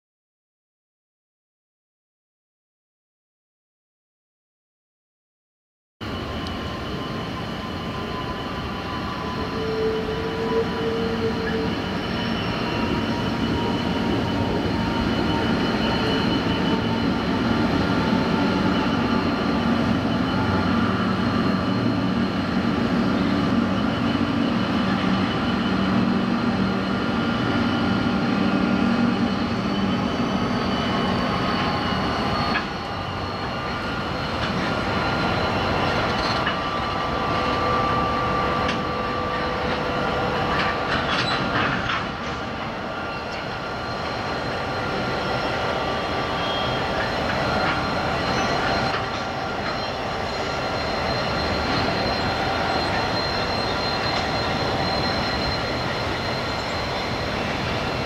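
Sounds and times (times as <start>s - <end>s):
wheel squeal: 6.1s - 58.0s.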